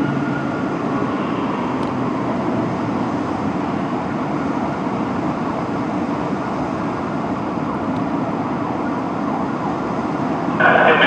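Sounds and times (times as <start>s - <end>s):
city traffic rumble: 0.0s - 11.0s
fire engine diesel running: 0.0s - 11.0s.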